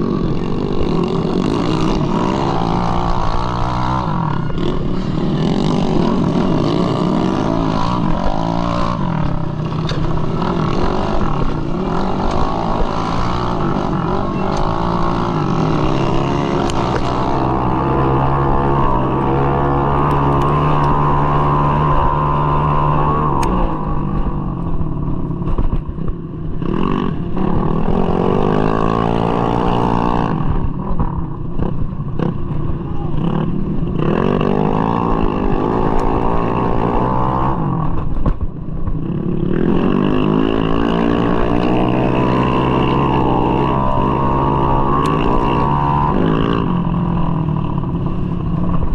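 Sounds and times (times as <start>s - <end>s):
scooter engine revving: 0.0s - 25.7s, 26.5s - 38.3s, 39.0s - 48.9s.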